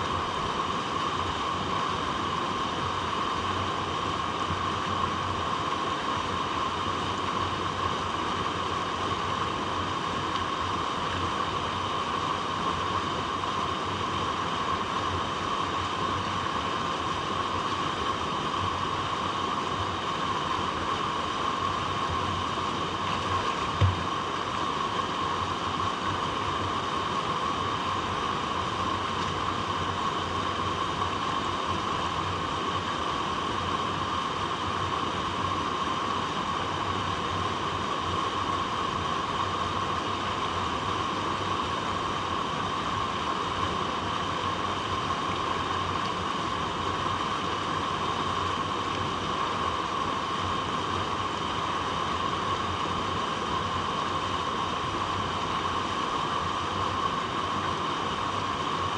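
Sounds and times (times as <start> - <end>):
water running over rocks: 0.0 - 58.9.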